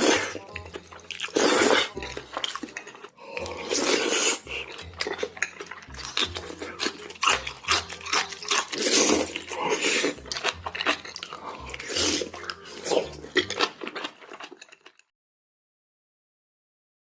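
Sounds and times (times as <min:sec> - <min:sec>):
crunchy chewing: 0:00.0 - 0:15.1.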